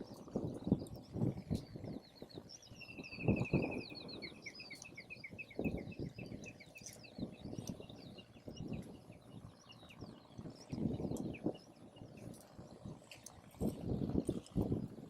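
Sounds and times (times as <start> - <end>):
birds singing: 0.0 - 13.0
wind gusts on microphone: 0.0 - 15.0.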